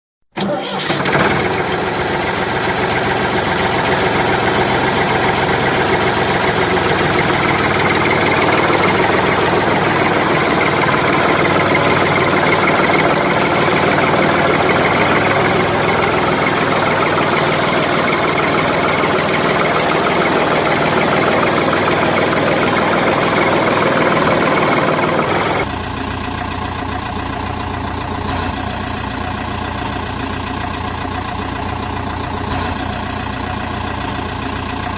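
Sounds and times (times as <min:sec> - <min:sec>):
backhoe engine running: 0:00.4 - 0:34.9.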